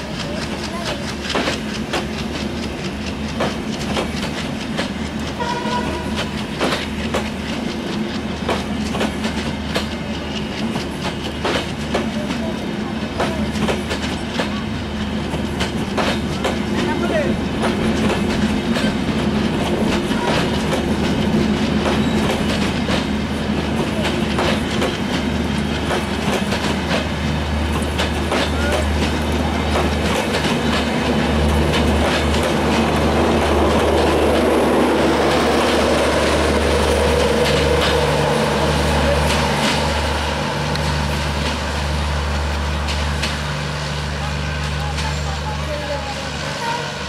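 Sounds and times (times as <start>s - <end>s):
wheels clacking over rail joints: 0.0s - 46.4s
train coaches rumbling past: 0.0s - 47.0s.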